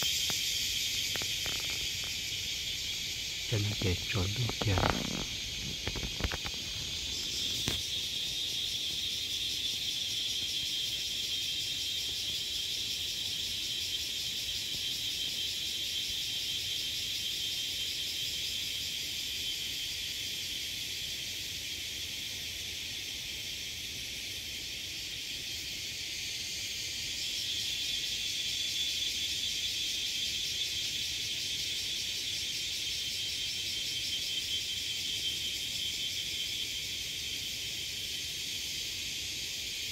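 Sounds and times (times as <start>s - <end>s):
shrill chorus of forest insects: 0.0s - 39.9s.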